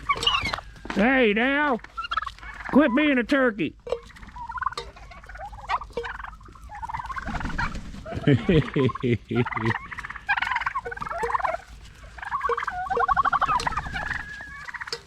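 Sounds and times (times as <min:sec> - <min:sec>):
turkeys gobbling: 0:00.0 - 0:15.0.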